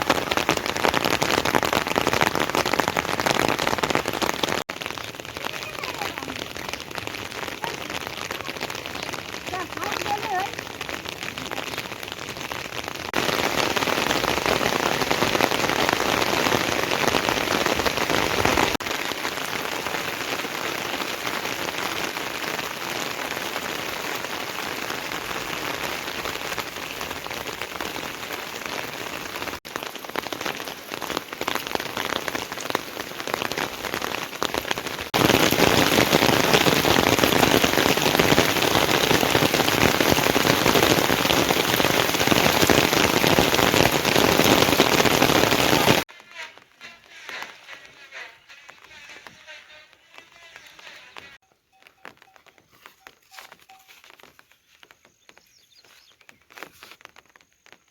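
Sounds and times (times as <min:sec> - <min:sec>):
heavy rain pouring: 0:00.0 - 0:54.4.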